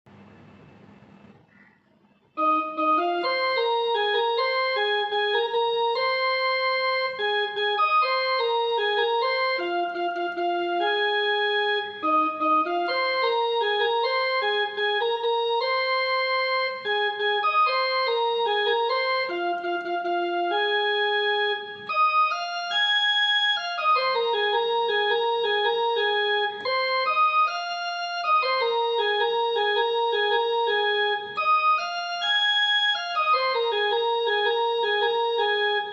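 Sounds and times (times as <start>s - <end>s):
electronic keyboard melody: 2.4s - 35.9s.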